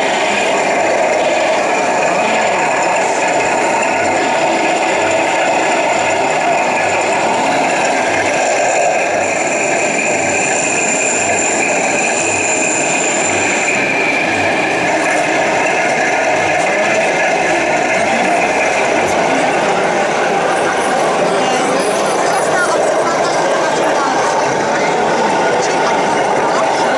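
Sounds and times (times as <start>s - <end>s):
toy tanks whining and rattling: 0.0s - 26.9s.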